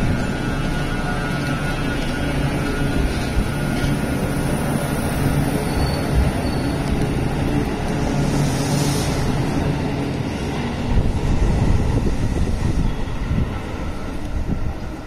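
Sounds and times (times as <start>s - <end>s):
electric train accelerating: 0.0s - 15.0s.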